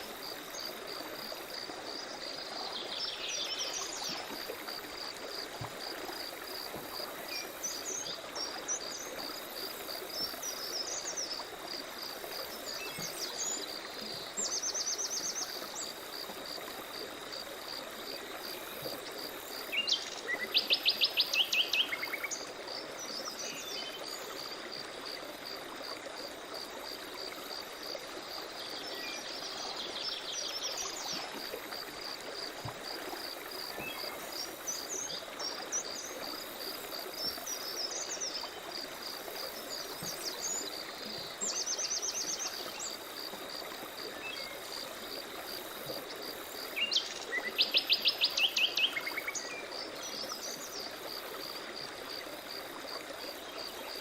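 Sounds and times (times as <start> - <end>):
stream water running: 0.0 - 54.0.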